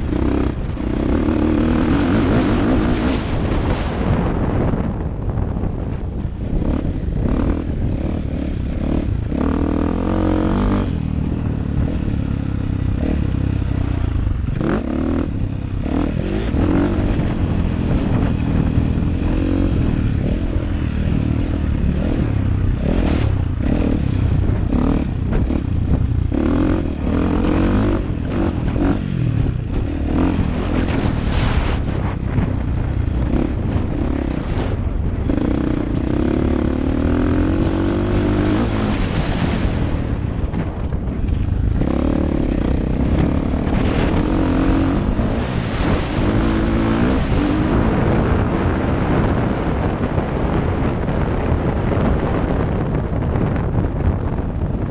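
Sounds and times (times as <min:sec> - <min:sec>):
motocross engine revving: 0:00.0 - 0:03.6, 0:06.6 - 0:12.2, 0:12.8 - 0:32.5, 0:33.1 - 0:40.0, 0:41.2 - 0:49.5.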